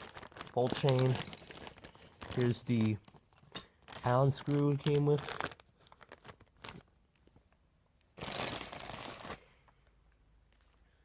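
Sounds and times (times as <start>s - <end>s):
packing material crinkling: 0.0s - 7.3s, 8.2s - 11.0s.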